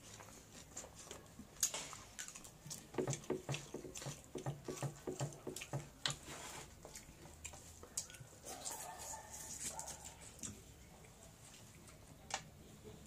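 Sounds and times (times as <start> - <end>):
chewing and lip-smacking: 0.1 - 6.2, 6.8 - 12.1.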